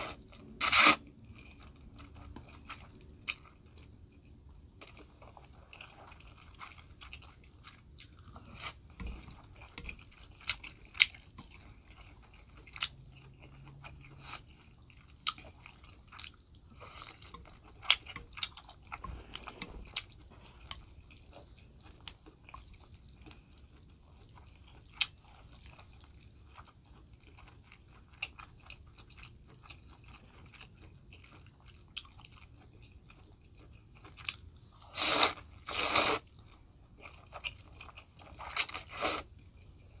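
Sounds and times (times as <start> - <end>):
close-miked chewing noodles: 0.0 - 40.0.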